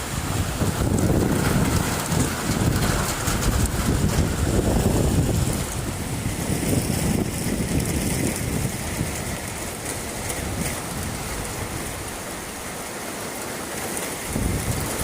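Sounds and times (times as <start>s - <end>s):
heavy rain pouring: 0.0s - 15.0s
wind rumbling on microphone: 0.0s - 15.0s.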